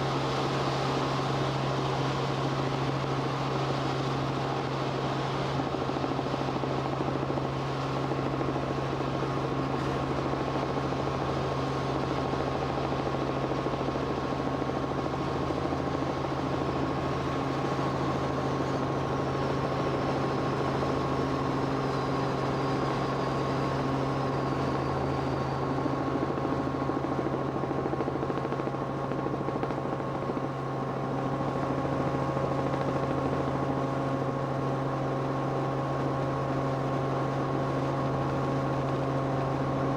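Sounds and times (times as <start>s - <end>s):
aircraft engine and rotor drone: 0.0s - 39.9s.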